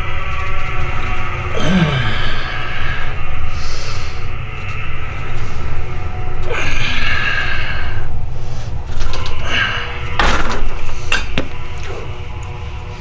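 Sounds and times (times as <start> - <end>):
man breathing forcefully: 0.0 - 11.8
low rumble: 0.0 - 13.0.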